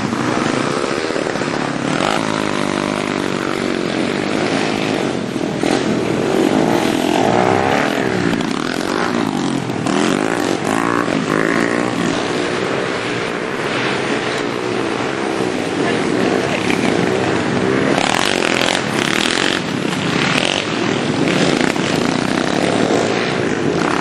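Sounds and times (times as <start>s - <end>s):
pit bike engines revving: 0.0s - 24.0s.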